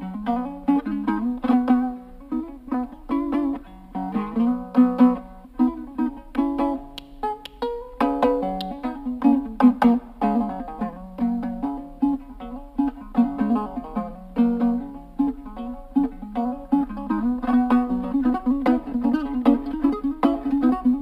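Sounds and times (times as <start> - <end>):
plucked lute strummed melody: 0.0 - 21.0.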